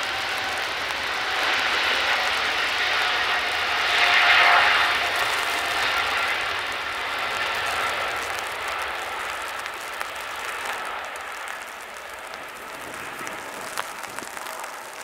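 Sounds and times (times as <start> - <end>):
jet engines roaring at take-off: 0.0 - 15.0.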